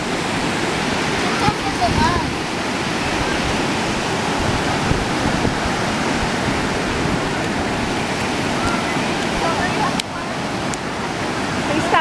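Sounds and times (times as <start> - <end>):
surf waves breaking: 0.0 - 12.0.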